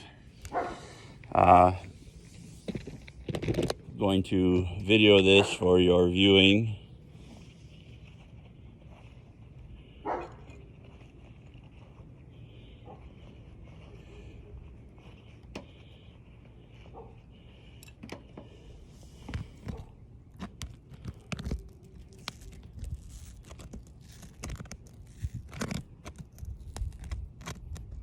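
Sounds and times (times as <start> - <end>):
roof shingle crackling and tearing: 0.0 - 14.1, 14.9 - 28.0.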